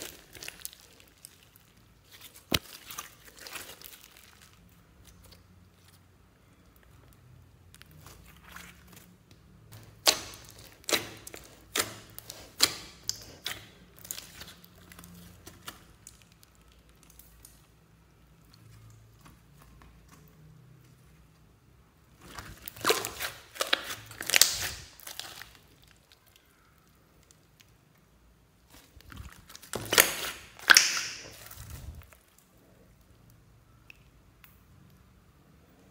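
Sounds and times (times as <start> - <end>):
slime squelching and popping: 0.0 - 21.0, 22.0 - 35.1.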